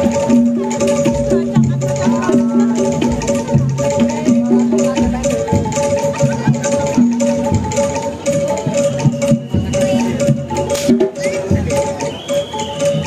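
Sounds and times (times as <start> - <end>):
drums and percussion beat: 0.0 - 13.0
repeating melody of held notes: 0.0 - 13.0.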